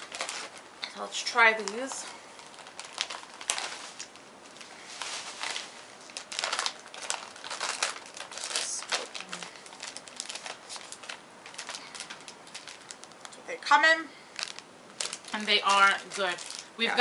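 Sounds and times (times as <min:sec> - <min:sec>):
snack pouch crinkling: 0:00.0 - 0:00.6, 0:01.6 - 0:13.4, 0:14.3 - 0:16.8.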